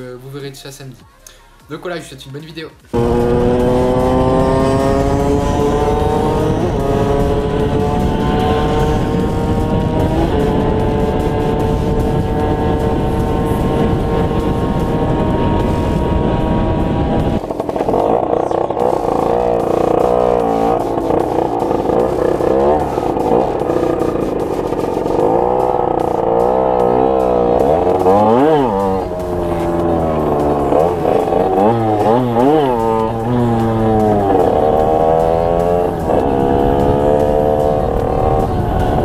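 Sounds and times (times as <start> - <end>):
two-stroke motorbike engine revving: 2.9 - 39.0.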